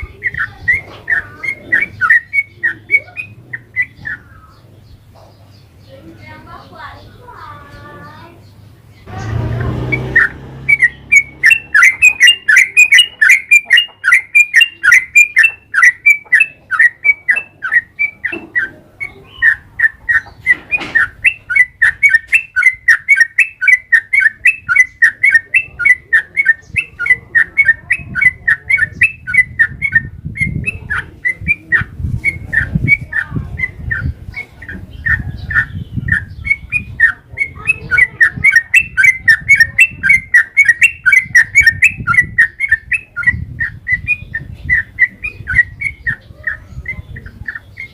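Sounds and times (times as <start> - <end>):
bulbul singing chirpy notes: 8.2 - 47.9.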